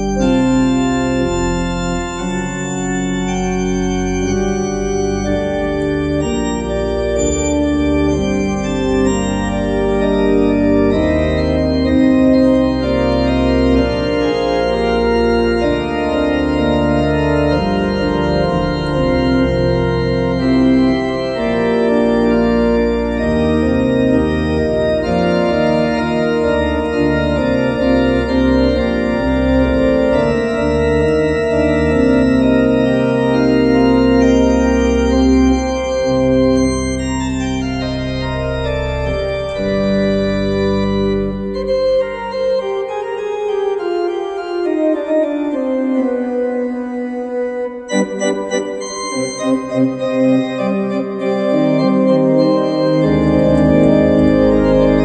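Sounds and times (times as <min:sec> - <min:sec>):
organ playing chords: 0:00.0 - 0:55.0.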